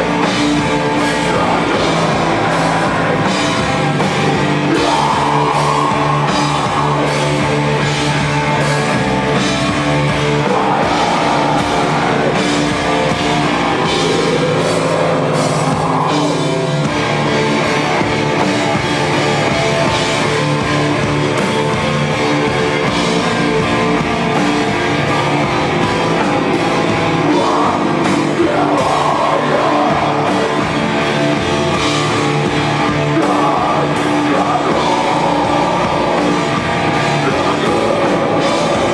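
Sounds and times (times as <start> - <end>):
drum kit: 0.0 - 38.9
rock band playing live: 0.0 - 38.9.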